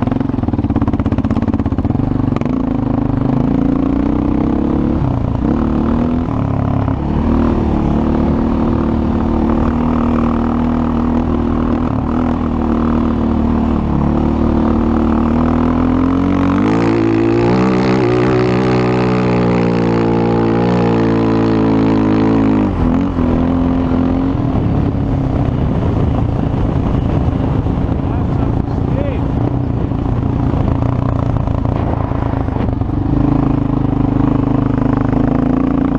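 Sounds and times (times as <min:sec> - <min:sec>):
quad engine running: 0:00.0 - 0:35.9.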